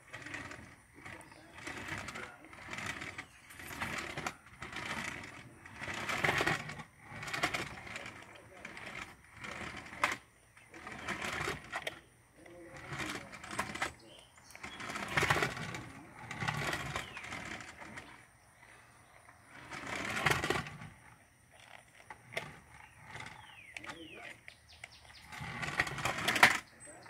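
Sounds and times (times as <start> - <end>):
toy car motor whirring: 0.0 - 27.0.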